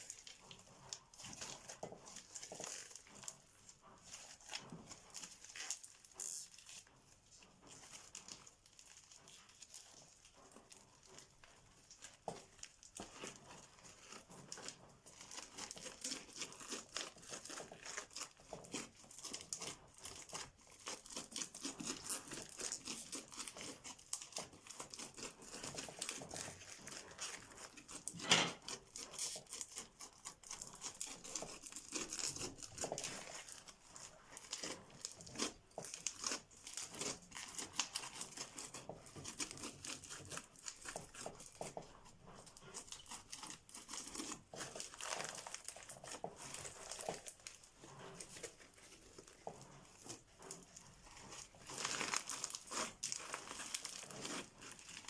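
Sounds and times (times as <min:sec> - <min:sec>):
crunchy slime crackling: 0:00.0 - 0:41.8, 0:42.4 - 0:55.0.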